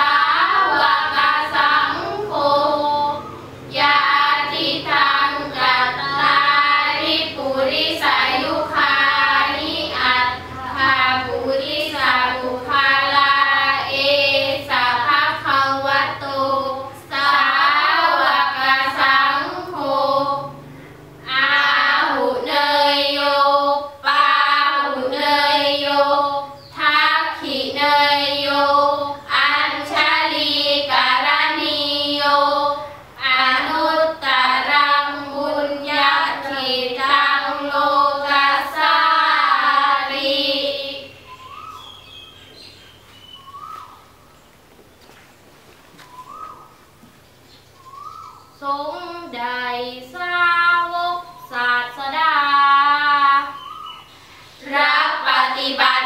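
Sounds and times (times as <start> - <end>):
girls chanting in unison: 0.0 - 41.3, 48.6 - 53.6, 54.6 - 56.0.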